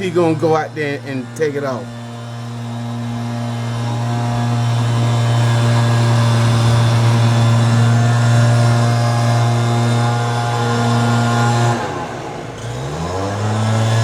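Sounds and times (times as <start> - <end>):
leaf blower engine running: 0.0 - 14.0.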